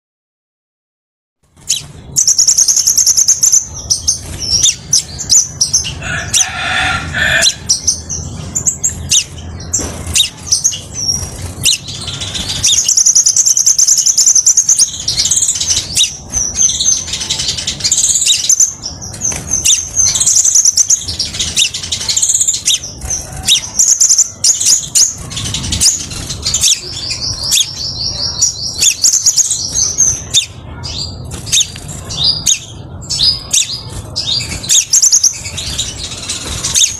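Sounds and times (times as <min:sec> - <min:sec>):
bird chirping and trilling: 0:01.6 - 0:36.9.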